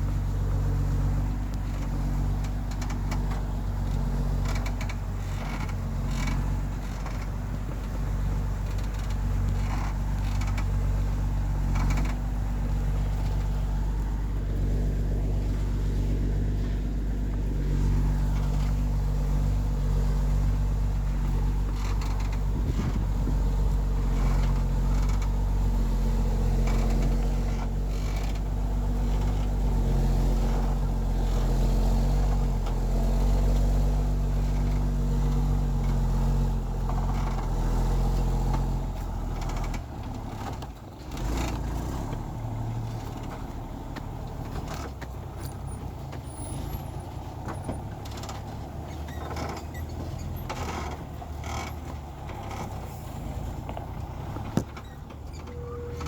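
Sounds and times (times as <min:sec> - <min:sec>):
creaks and knocks: 0:00.0 - 0:56.0
heavy truck engine running: 0:00.0 - 0:56.0.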